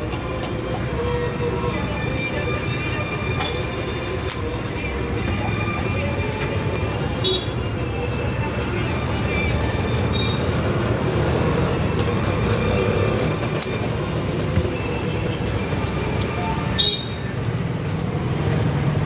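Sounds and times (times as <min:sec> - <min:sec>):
low rumble of street traffic: 0:00.0 - 0:19.0.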